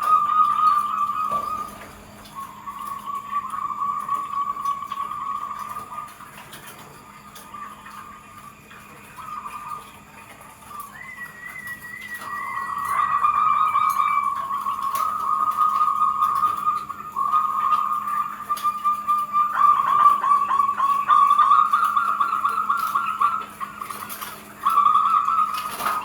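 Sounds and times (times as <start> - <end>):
doves cooing: 0.0 - 26.0
higher wavering bird call: 0.0 - 26.0.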